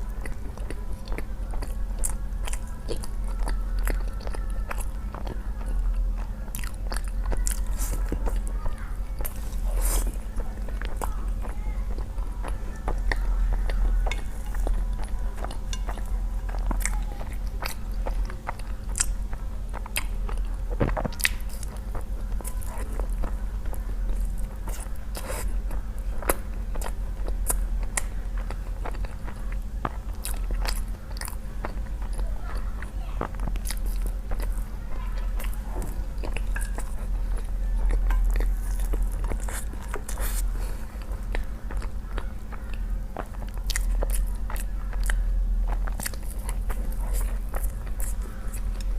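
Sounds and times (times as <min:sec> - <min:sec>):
chewing noodles: 0:00.0 - 0:48.9.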